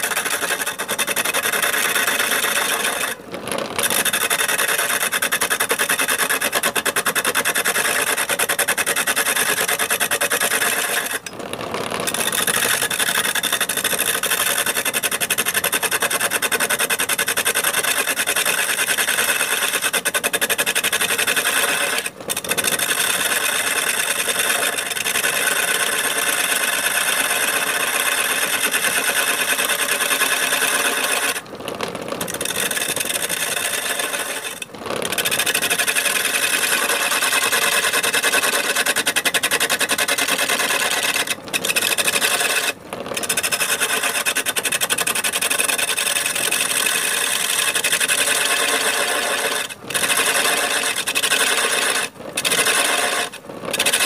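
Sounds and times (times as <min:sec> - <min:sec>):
chisel scraping spinning wood: 0:00.0 - 0:54.0.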